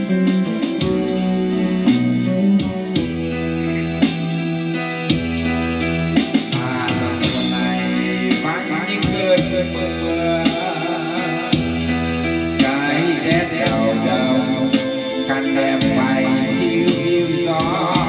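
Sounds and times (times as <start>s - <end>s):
song with singing and guitar: 0.0s - 18.0s.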